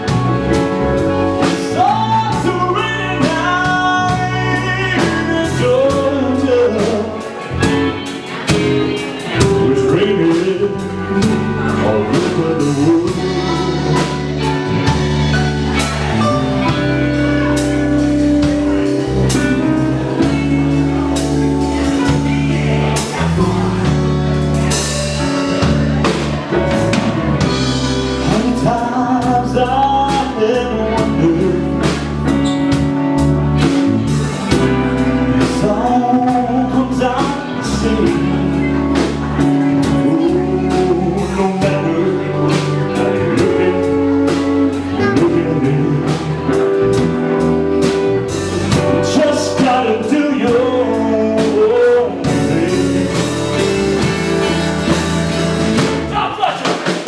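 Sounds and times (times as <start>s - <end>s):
melodic lead line bending: 0.0s - 56.2s
live band playing soul ballad: 0.0s - 57.0s.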